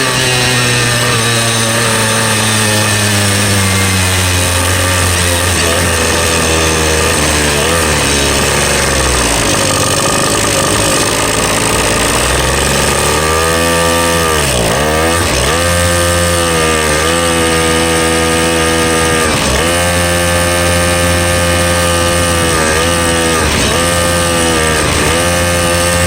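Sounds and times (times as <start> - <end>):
small engine revving: 0.0 - 26.0.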